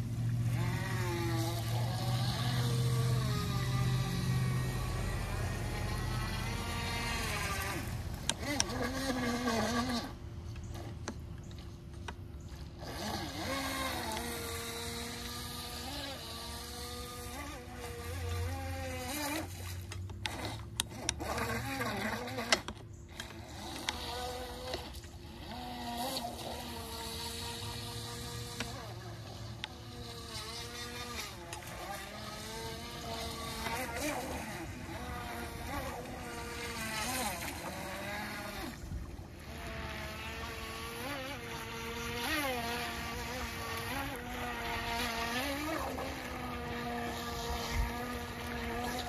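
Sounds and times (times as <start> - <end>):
toy boat motor whining: 0.0 - 49.0.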